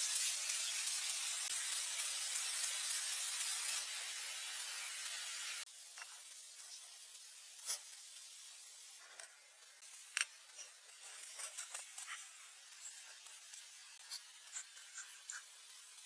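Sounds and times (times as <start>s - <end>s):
steady hissing: 0.0s - 16.0s.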